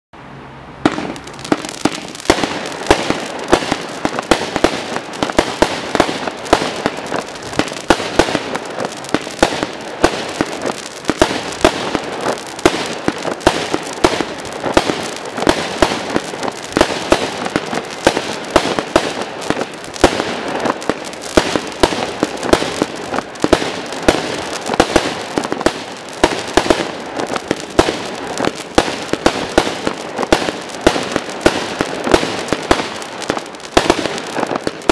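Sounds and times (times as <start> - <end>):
firework crackling: 0.8 - 34.9
firework launch bangs: 0.8 - 34.9.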